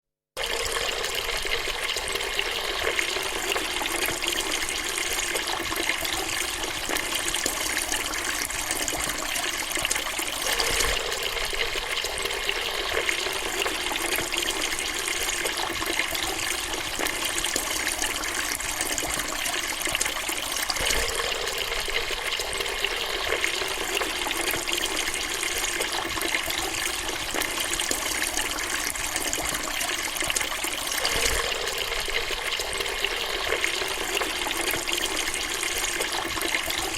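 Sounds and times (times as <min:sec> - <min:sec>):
water running from faucet: 0:00.4 - 0:36.9.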